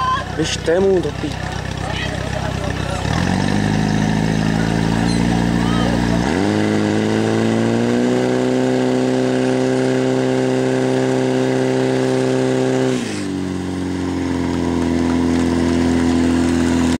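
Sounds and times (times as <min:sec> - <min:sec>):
pump engine revving: 0:00.0 - 0:17.0.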